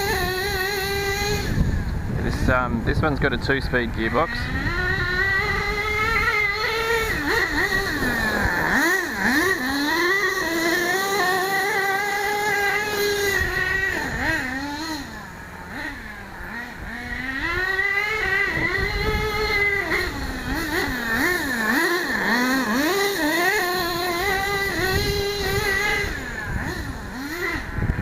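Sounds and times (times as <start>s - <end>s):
model car engine revving: 0.0s - 28.0s.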